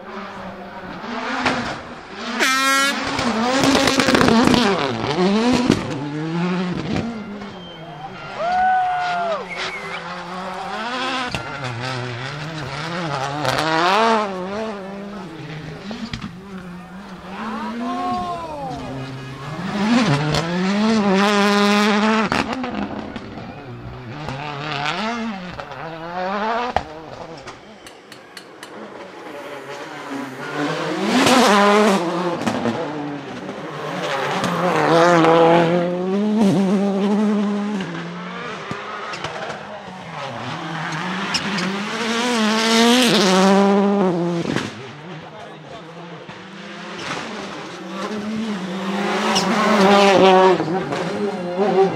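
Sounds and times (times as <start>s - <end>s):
race car engine revving: 0.0s - 8.4s, 9.3s - 51.9s.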